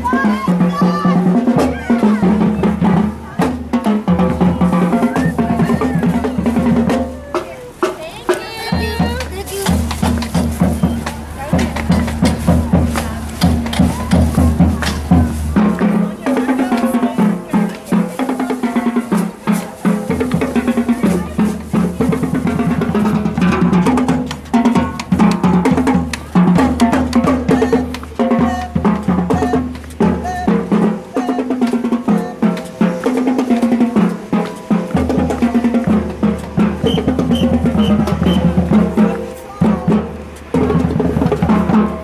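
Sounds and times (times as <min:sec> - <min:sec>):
snare drum rolls: 0:00.0 - 0:42.0
tenor and bass drums: 0:00.0 - 0:42.0.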